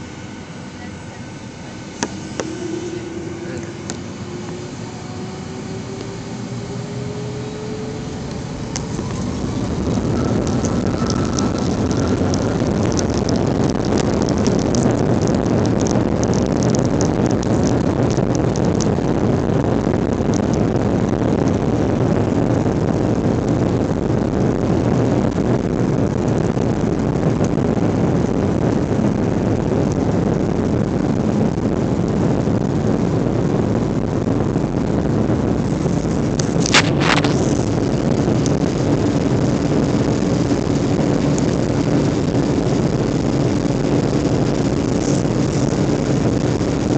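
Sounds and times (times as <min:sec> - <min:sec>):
jet engines roaring: 0:00.0 - 0:46.9.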